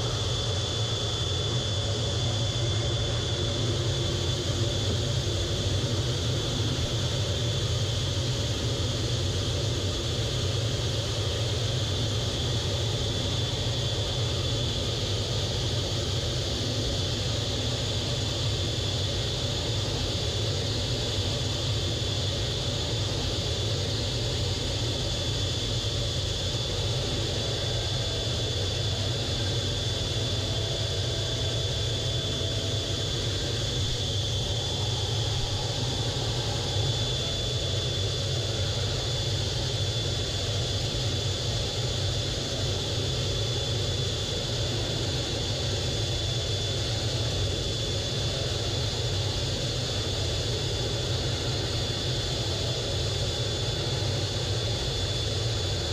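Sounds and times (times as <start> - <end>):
jet engine rumble: 0.0 - 55.9
thin high whine: 0.0 - 55.9.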